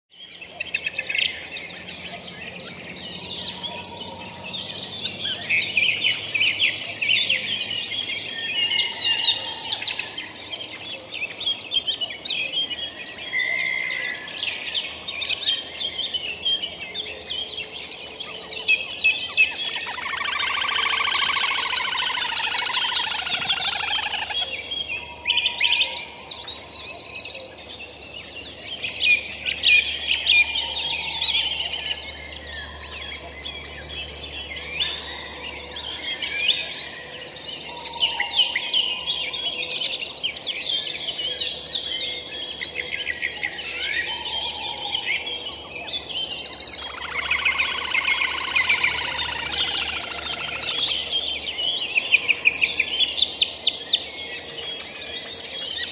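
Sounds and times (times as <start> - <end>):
songbirds singing: 0.1 - 55.9.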